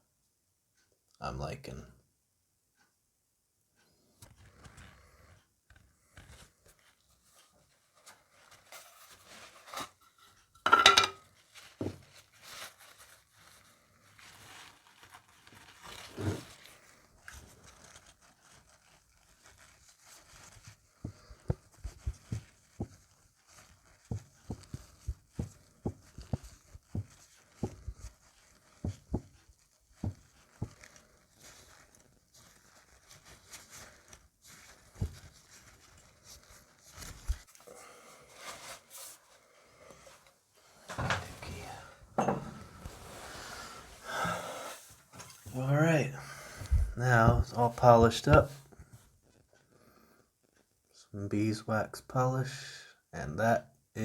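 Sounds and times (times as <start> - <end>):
faint rustling: 3.9 - 50.7.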